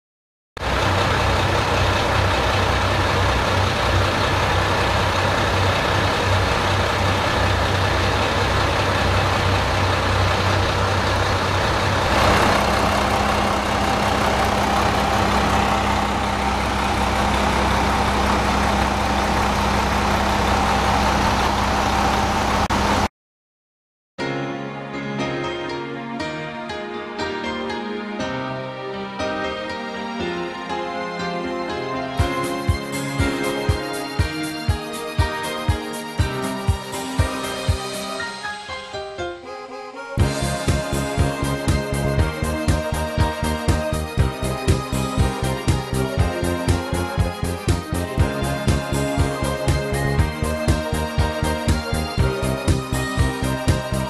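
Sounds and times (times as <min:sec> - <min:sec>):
diesel railcar engine humming: 0:00.6 - 0:23.1, 0:32.0 - 0:38.7, 0:39.8 - 0:54.0.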